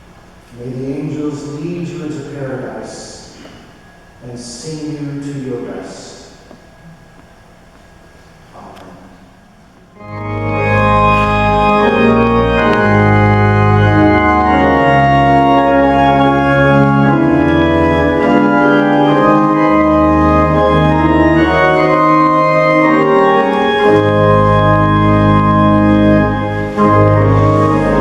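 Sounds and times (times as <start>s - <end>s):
church organ chords: 0.0s - 6.8s, 10.0s - 28.0s.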